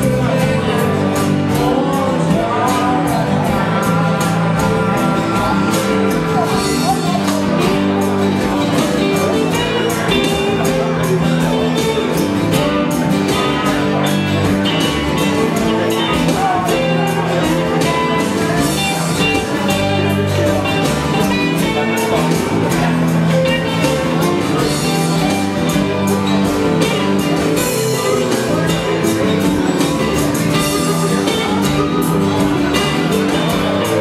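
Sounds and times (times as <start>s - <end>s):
live band playing upbeat song: 0.0s - 34.0s.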